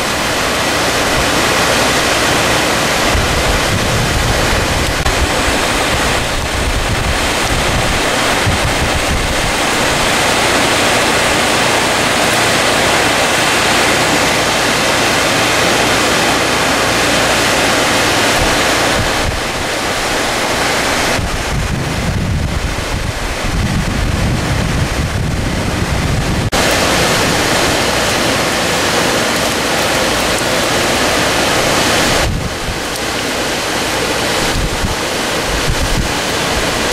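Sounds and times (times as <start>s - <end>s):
heavy rain and floodwater: 0.0s - 36.9s
wind buffeting microphone: 0.0s - 36.9s.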